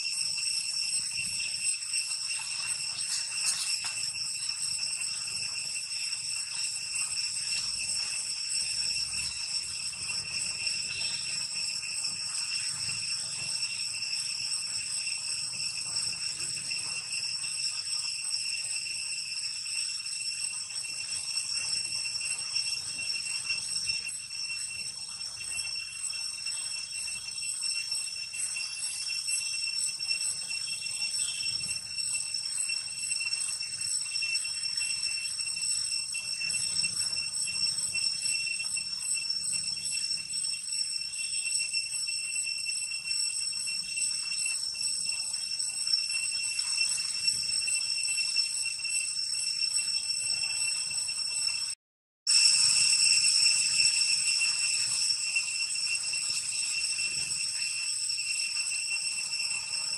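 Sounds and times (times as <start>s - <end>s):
high-pitched insect chorus: 0.0s - 51.7s, 52.3s - 59.9s.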